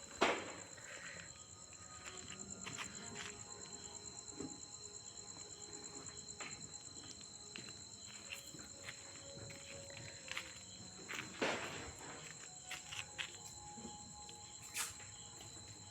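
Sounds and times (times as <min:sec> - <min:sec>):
crickets trilling: 0:00.0 - 0:15.9.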